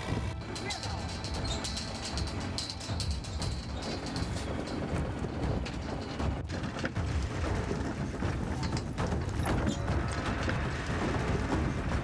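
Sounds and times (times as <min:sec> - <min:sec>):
mechanical clatter: 0:00.0 - 0:12.0.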